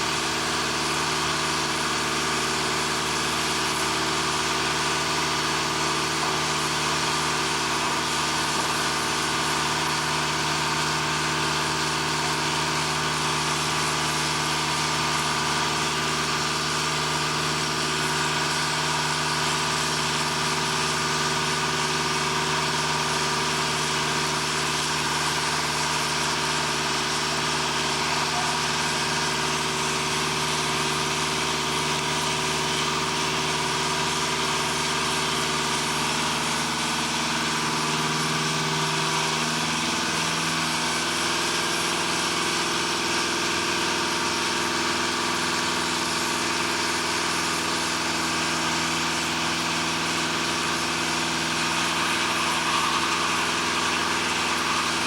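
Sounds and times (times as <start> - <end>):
machinery droning: 0.0 - 55.0.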